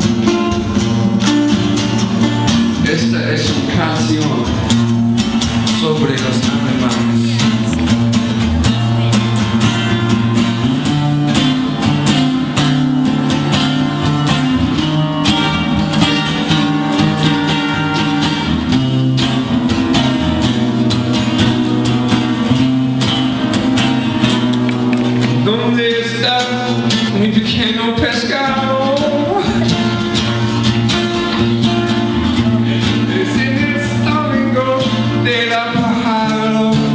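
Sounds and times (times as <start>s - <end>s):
strummed acoustic guitar: 0.0s - 36.9s
sustained bass notes: 0.0s - 36.9s.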